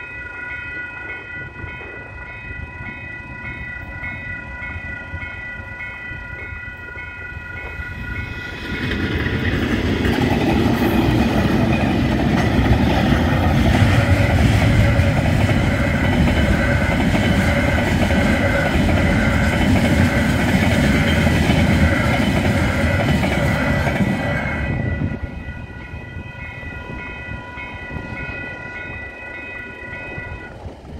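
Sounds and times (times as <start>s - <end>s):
crossing warning bells: 0.0s - 30.9s
freight train wagons rumbling: 0.0s - 30.9s.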